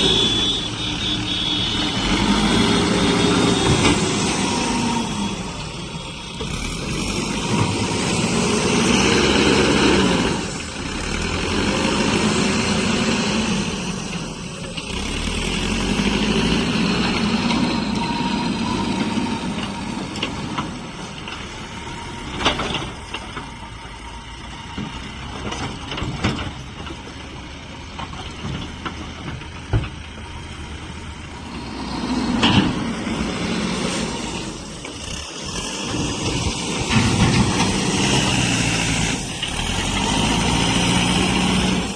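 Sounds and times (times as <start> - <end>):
diesel backhoe engine surging: 0.0 - 41.9.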